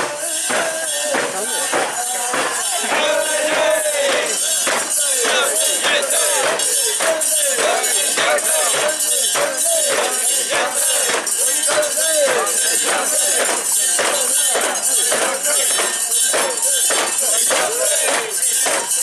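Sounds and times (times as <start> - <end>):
people chanting together: 0.0 - 19.0.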